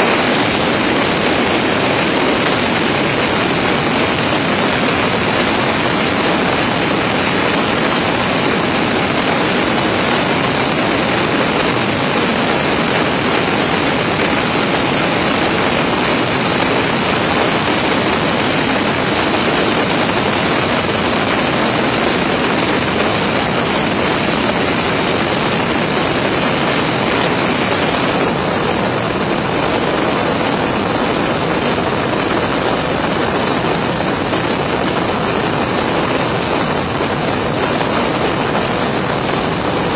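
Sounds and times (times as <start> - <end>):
aircraft engine noise: 0.0 - 39.9
airflow rushing: 0.0 - 39.9.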